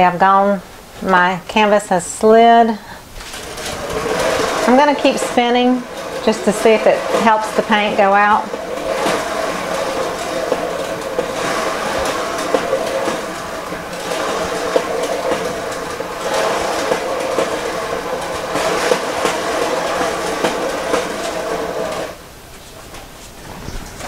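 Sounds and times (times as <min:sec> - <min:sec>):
turntable rumbling and clattering: 0:02.3 - 0:24.0.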